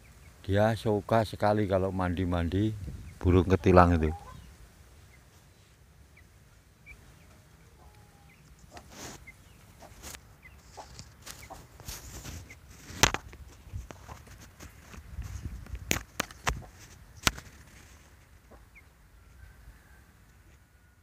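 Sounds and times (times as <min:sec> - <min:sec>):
birds chirping: 0:00.0 - 0:14.3, 0:15.0 - 0:20.0.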